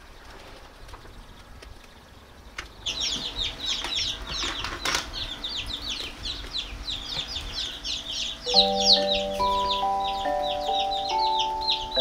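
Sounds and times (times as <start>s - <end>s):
chicks peeping: 0.1s - 12.0s.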